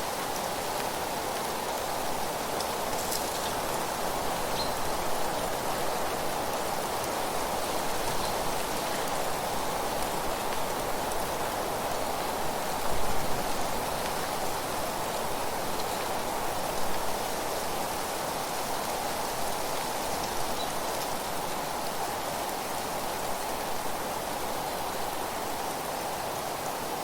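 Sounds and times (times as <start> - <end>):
wind rustling through leaves: 0.0 - 27.0.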